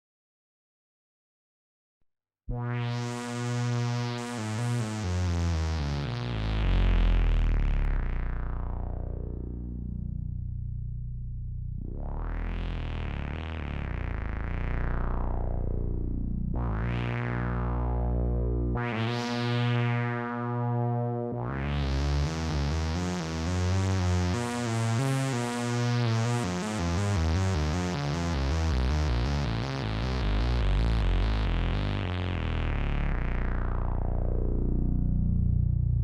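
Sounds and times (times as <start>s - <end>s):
sweeping synthesizer notes: 2.5s - 36.0s.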